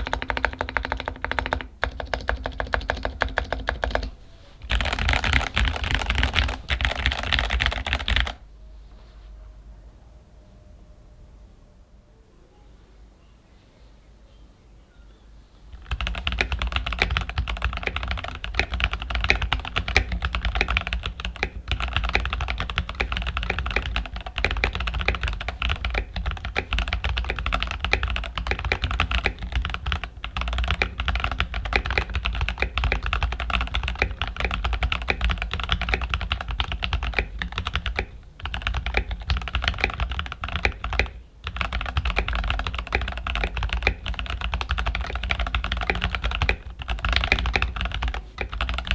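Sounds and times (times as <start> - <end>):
mechanical keyboard typing: 0.0 - 8.4, 15.7 - 48.9.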